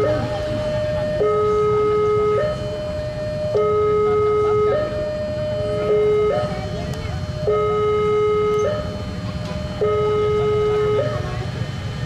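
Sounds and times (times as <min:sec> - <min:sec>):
two-tone crossing alarm: 0:00.0 - 0:12.0.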